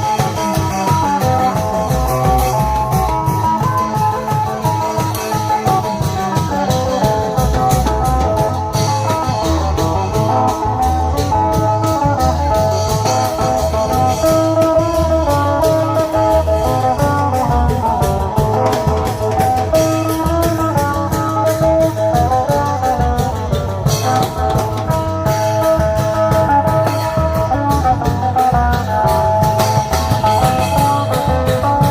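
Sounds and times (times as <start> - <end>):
steady drum beats: 0.0 - 31.9.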